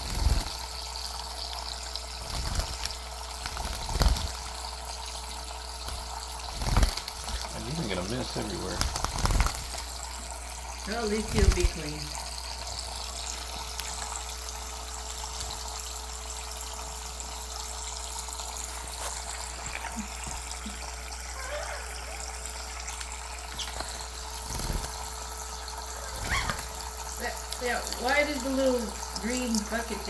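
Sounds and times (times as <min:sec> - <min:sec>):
stream water running: 0:00.0 - 0:30.0.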